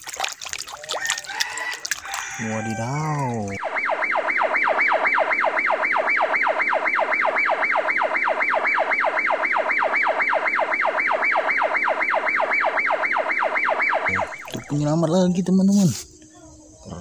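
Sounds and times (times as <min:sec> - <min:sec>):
siren on fast yelp: 0:01.0 - 0:15.5.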